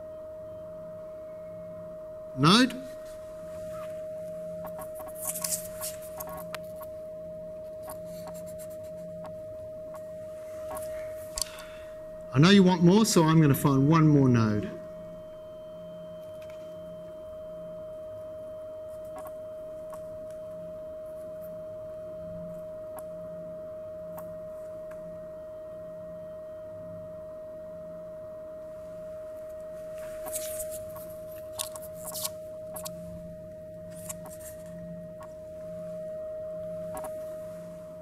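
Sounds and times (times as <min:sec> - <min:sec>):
steady sine tone: 0:00.0 - 0:38.0.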